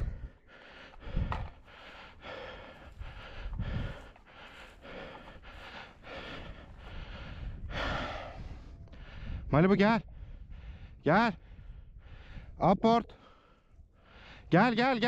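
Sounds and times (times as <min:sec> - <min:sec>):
man breathing heavily: 0:00.0 - 0:14.6.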